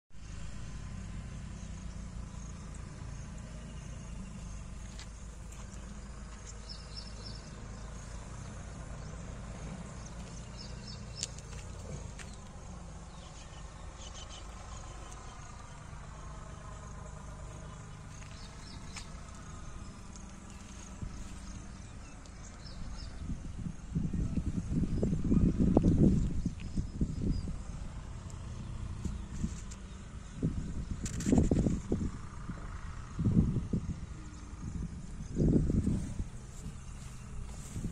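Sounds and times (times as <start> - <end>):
diesel generator engine droning: 0.2 - 37.9.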